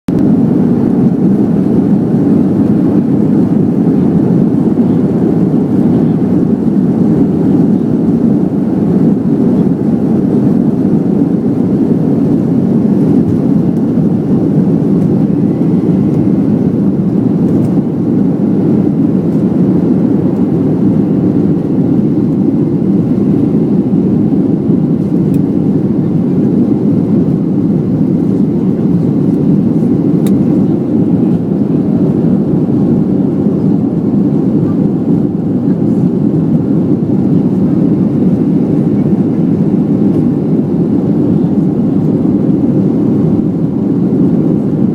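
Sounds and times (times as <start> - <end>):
jet engines rumbling in cabin: 0.1 - 44.9.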